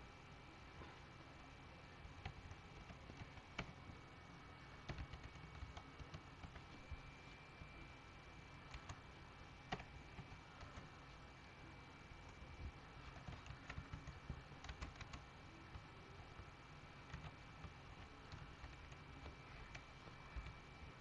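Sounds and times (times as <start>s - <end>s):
low steady background hiss: 0.0s - 21.0s.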